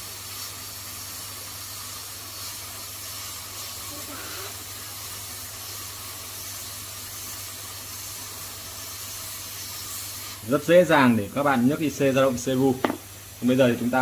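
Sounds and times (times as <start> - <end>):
hot air gun hissing: 0.0 - 14.0.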